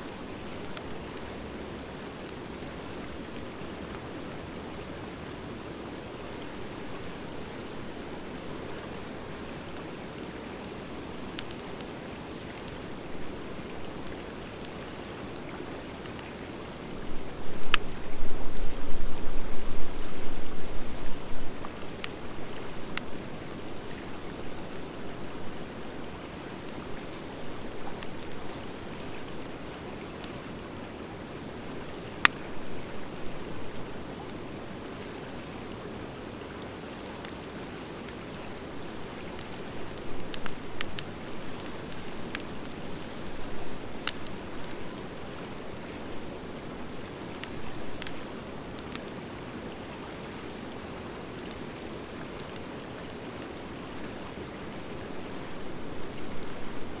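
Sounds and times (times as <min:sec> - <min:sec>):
fire crackling and popping: 0:00.1 - 0:35.6, 0:36.8 - 0:57.0.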